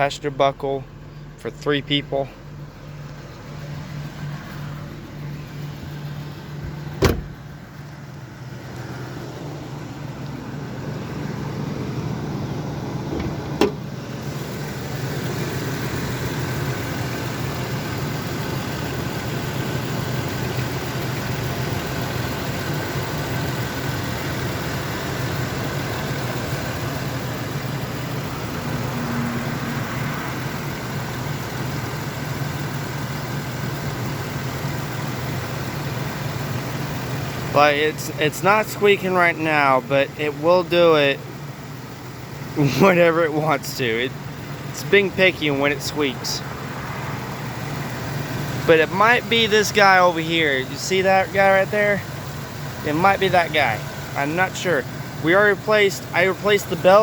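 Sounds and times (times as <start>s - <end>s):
pickup truck engine idling: 0.0s - 57.0s.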